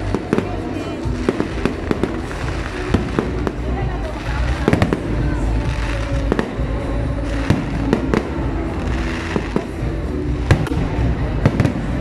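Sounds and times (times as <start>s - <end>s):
fireworks bursting: 0.0s - 12.0s
low rumble: 0.0s - 12.0s.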